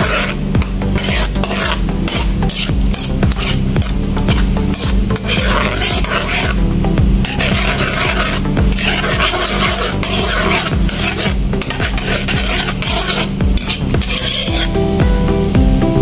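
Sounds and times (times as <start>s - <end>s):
metal spoon scraping a wok: 0.0s - 15.1s
butter sizzling and foaming: 0.0s - 16.0s
music: 0.0s - 16.0s.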